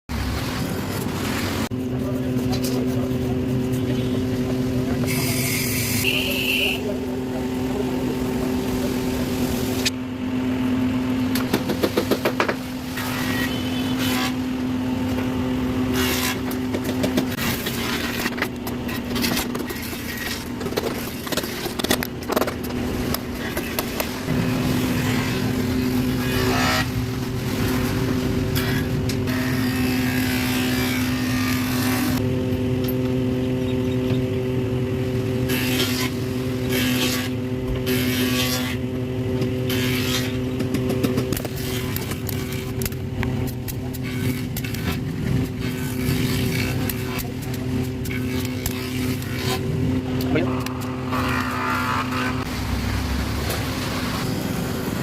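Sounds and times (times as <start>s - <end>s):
motor humming: 2.9s - 55.0s.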